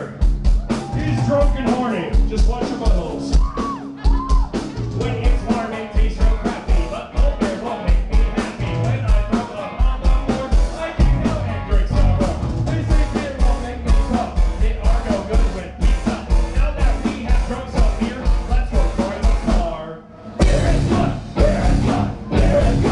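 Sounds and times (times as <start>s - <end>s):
live rock band playing: 0.0s - 22.9s
person singing: 3.3s - 19.8s, 20.4s - 22.9s.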